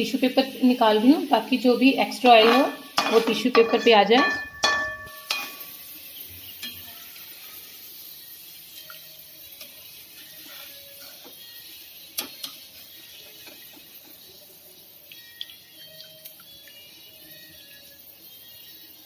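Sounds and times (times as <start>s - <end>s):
food frying in hot oil: 0.0s - 19.0s.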